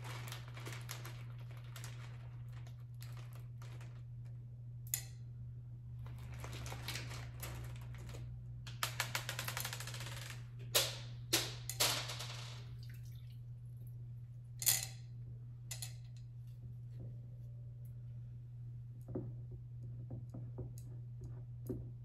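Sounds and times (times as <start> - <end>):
steady low hum: 0.0 - 9.0, 10.4 - 22.0.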